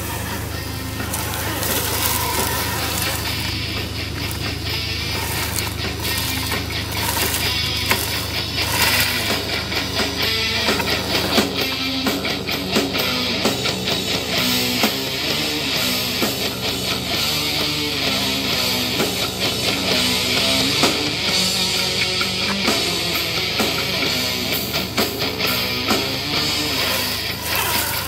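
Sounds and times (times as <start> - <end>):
heavy rock music through small speakers: 0.0 - 28.0.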